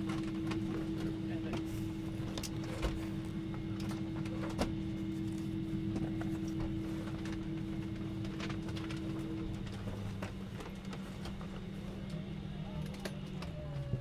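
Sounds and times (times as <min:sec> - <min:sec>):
airliner cabin hum: 0:00.0 - 0:14.0.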